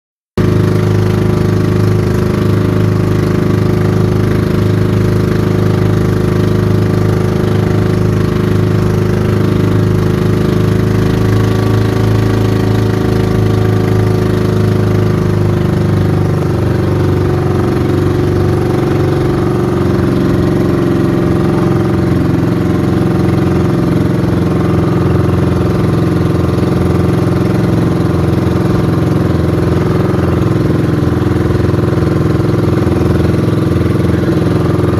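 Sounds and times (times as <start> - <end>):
ship engine idling: 0.4 - 34.9.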